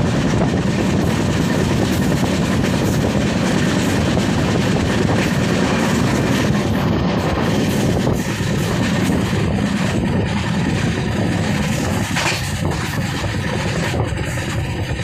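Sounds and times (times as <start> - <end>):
train wheels running on rails: 0.0 - 15.0.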